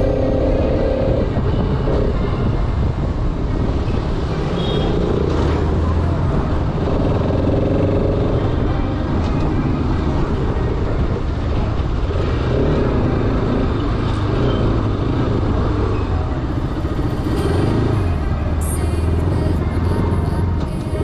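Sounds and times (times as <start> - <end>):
motorcycle engine running: 0.0 - 21.0
road noise: 0.0 - 21.0.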